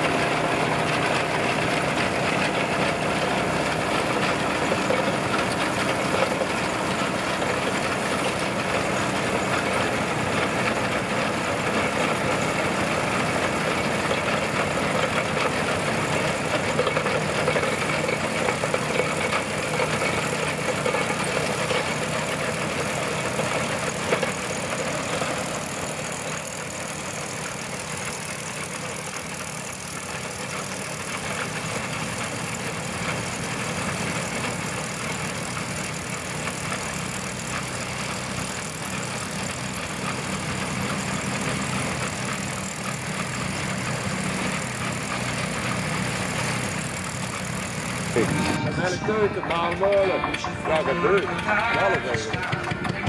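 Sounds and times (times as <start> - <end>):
fast mechanical rattle: 0.0 - 53.0
tractor engine running: 0.0 - 53.0.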